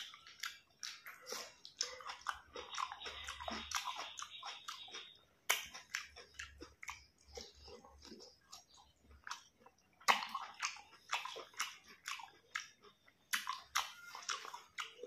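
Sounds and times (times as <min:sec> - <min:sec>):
person chewing crunchy vegetables: 0:00.0 - 0:15.0.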